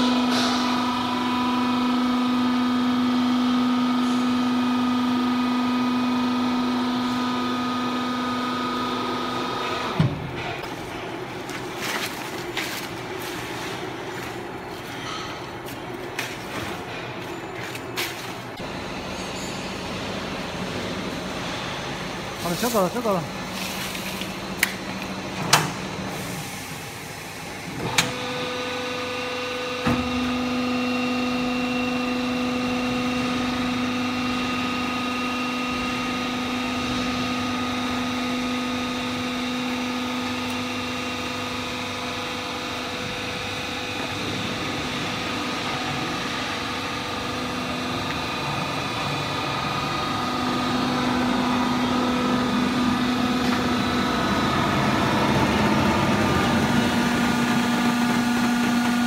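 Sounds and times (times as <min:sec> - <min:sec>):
hydraulic power unit humming: 0:00.0 - 0:59.0.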